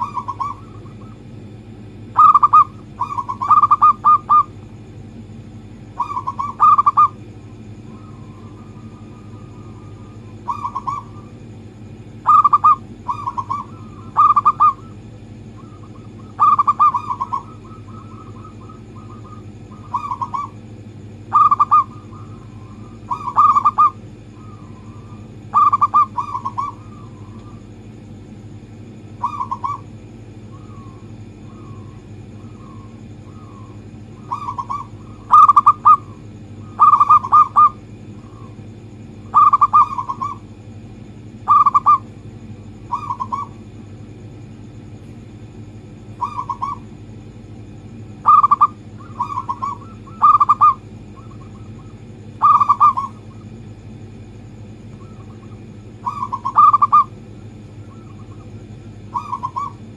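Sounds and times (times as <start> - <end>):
dove cooing: 0.0 - 4.6, 5.9 - 27.9, 28.8 - 44.0, 45.6 - 59.9
steady low hum: 0.0 - 59.9.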